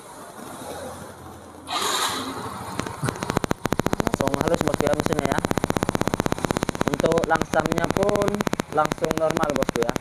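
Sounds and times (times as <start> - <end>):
scooter engine idling: 1.2 - 10.0
scooter starter noise: 1.7 - 10.0.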